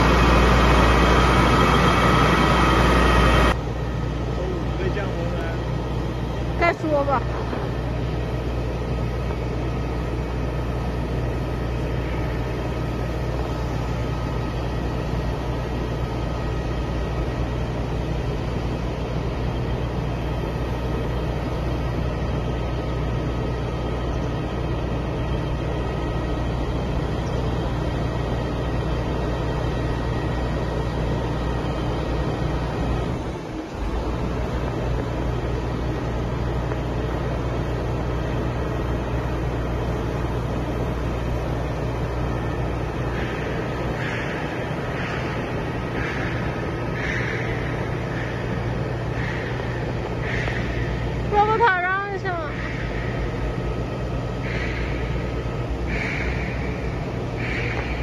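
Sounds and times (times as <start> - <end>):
diesel engine droning: 0.0 - 58.0
faint steady whine: 0.0 - 58.0.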